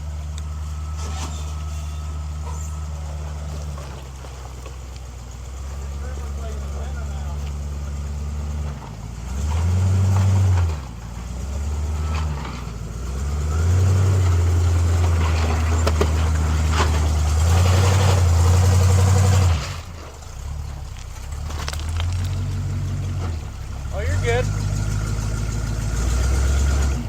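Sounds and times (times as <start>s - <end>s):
rock cracking under tyres: 0.0s - 7.7s, 8.7s - 27.0s
truck engine surging: 0.0s - 27.0s.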